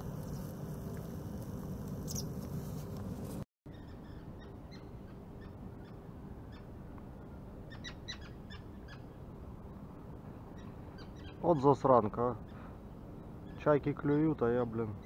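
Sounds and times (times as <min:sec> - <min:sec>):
steady low background noise: 0:00.0 - 0:15.0.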